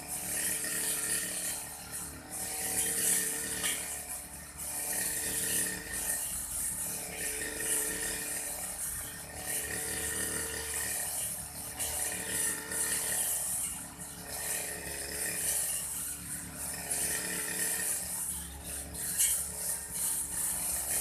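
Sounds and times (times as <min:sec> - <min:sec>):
brush cutter engine cutting grass: 0:00.0 - 0:21.0.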